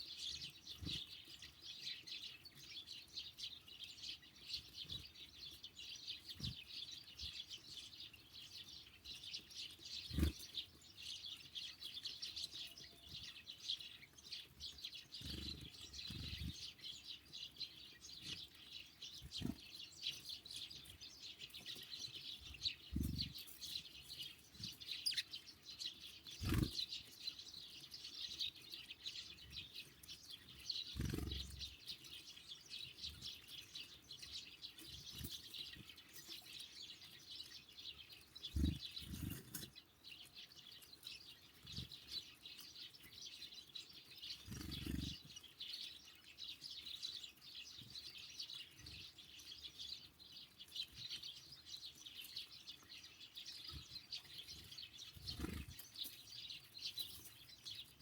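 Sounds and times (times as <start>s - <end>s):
flock of songbirds chirping: 0.0s - 58.0s.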